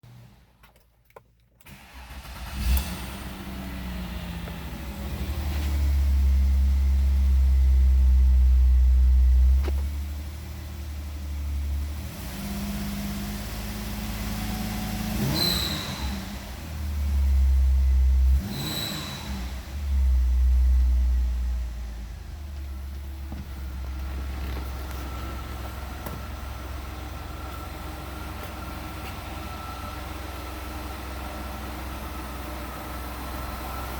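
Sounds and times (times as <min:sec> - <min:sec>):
car engine starting and idling: 0:00.0 - 0:33.9
car engine revving: 0:01.7 - 0:33.9.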